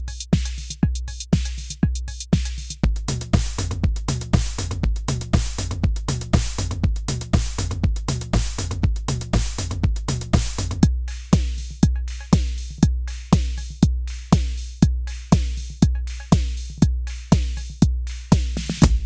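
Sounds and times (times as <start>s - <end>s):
drum machine kick: 0.0s - 19.0s
hi-hats: 0.0s - 19.0s.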